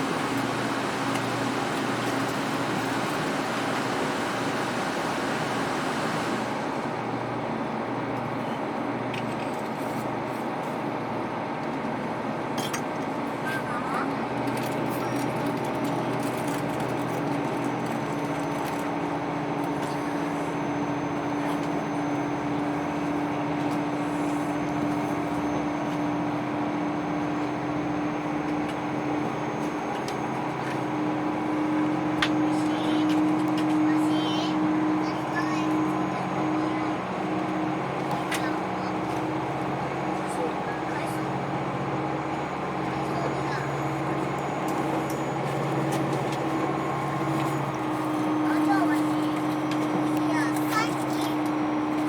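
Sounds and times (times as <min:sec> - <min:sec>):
diesel railcar engines droning: 0:00.0 - 0:52.0.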